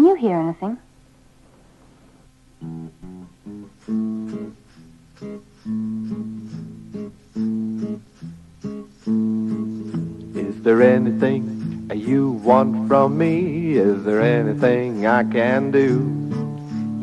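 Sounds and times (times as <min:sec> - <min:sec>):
strummed acoustic guitar chords: 0:02.6 - 0:17.0.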